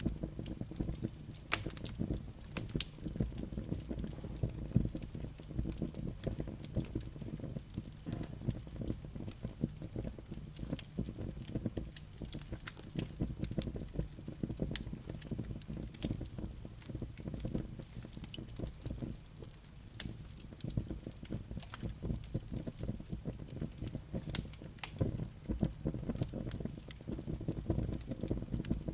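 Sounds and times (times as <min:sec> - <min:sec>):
fire crackling and popping: 0:00.0 - 0:28.9
fire rumbling: 0:00.0 - 0:28.9.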